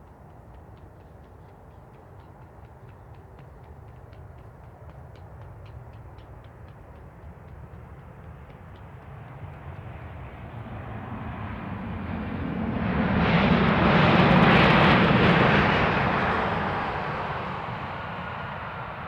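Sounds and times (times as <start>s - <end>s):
jet engines at takeoff power: 3.0s - 19.0s.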